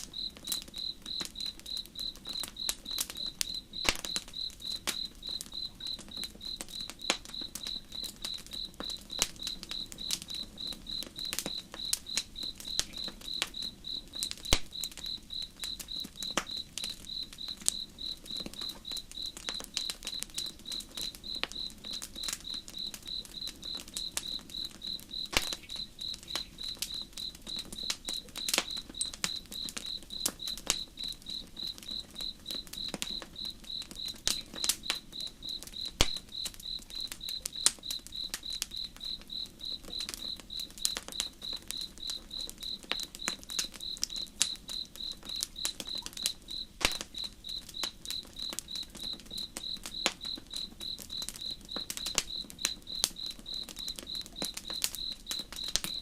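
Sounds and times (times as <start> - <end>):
campfire crackling: 0.0 - 56.0
crickets chirping: 0.0 - 56.0.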